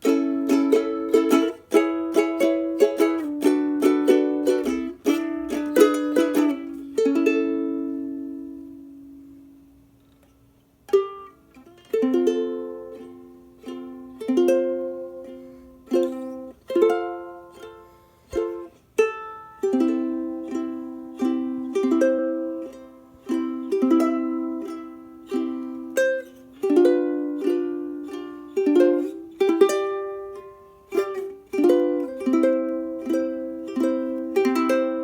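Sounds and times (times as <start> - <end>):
ukulele strumming: 0.0 - 35.0.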